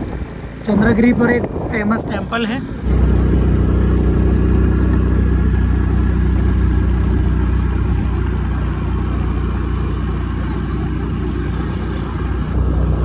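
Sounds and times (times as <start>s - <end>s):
motor scooter engine drone: 0.0s - 13.0s.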